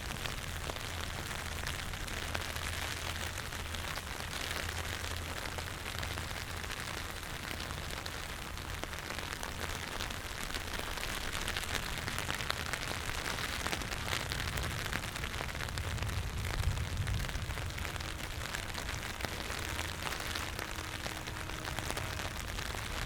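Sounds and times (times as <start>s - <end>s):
low steady hum: 0.0s - 23.0s
rain drops ticking: 0.0s - 23.0s
rain hiss: 0.0s - 23.0s.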